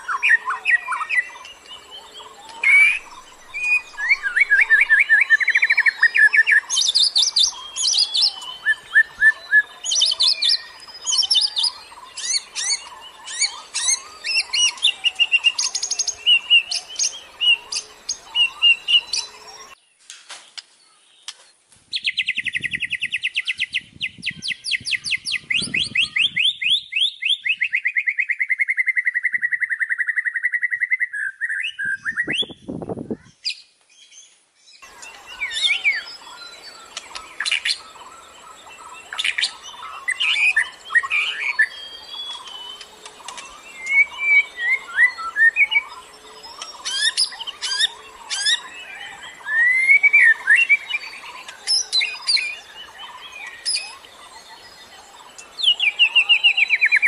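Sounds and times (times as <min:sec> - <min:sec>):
bird song with whistles and chirps: 0:00.0 - 0:19.8, 0:21.9 - 0:57.0.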